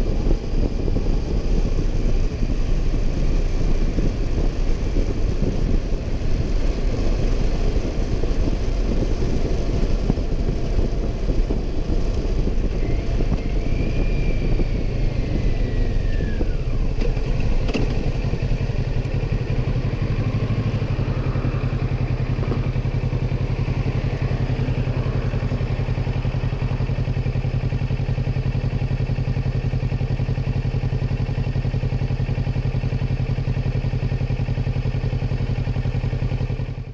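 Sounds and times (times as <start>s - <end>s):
wind noise: 0.0s - 36.7s
motorcycle engine running: 0.0s - 36.9s.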